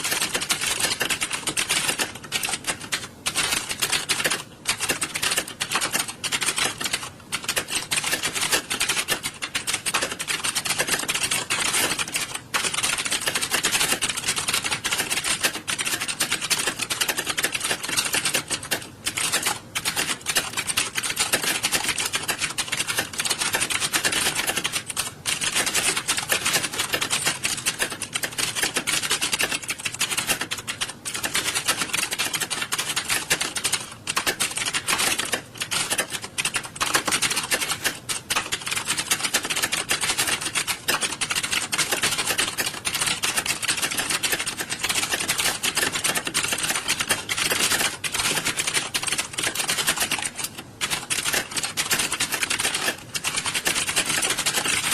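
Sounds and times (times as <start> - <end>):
clatter of keyboard typing: 0.0 - 54.9.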